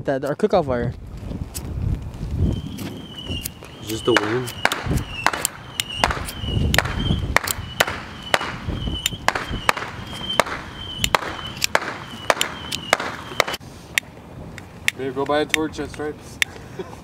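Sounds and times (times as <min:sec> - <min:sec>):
wind rumbling on microphone: 0:00.0 - 0:16.7.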